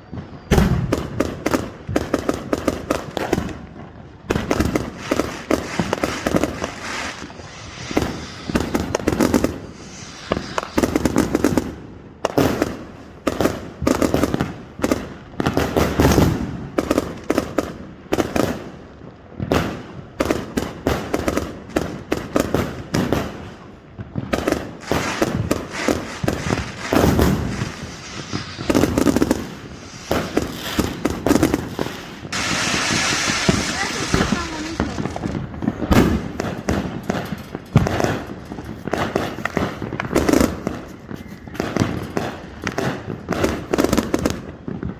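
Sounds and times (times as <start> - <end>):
fireworks cracking and booming: 0.0 - 44.9.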